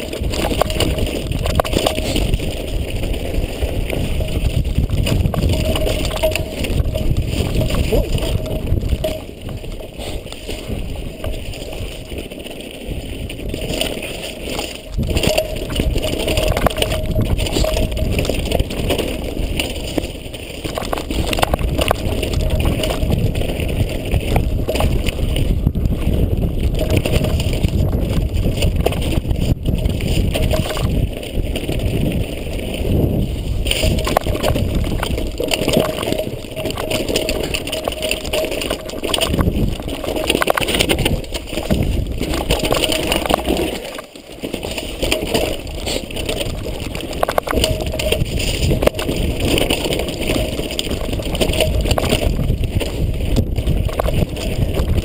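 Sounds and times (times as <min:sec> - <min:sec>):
bike rattling over bumps: 0:00.0 - 0:55.0
wind on microphone: 0:00.0 - 0:55.0.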